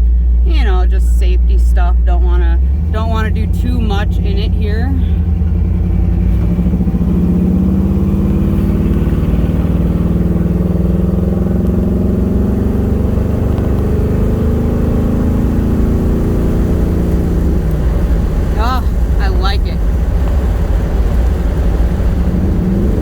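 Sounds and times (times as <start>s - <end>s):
car engine from inside cabin: 0.0s - 23.0s.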